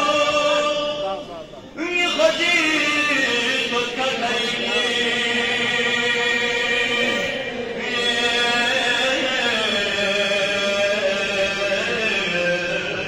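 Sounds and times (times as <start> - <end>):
man chanting into a microphone: 0.0 - 13.0.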